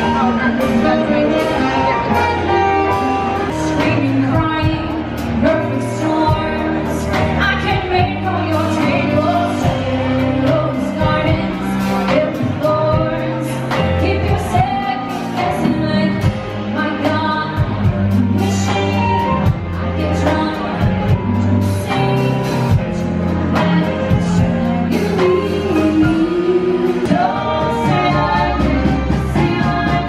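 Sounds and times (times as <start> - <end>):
live band playing: 0.0 - 30.0
steady drum beat: 0.0 - 30.0
woman singing: 0.0 - 30.0.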